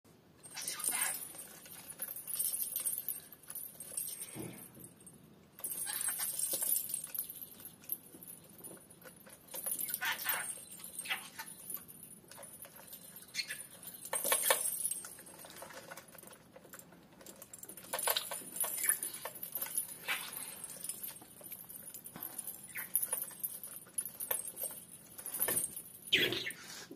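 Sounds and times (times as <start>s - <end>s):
small metal bells jingling: 0.4s - 26.6s.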